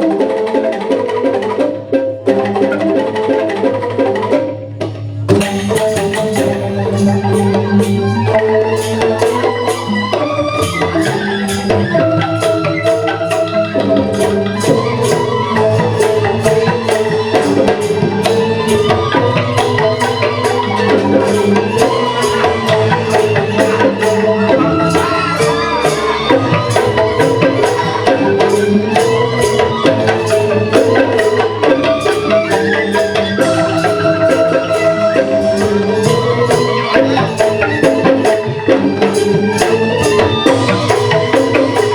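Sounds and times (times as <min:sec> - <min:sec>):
bamboo xylophones playing: 0:00.0 - 0:41.9
percussion fast beat: 0:00.0 - 0:41.9.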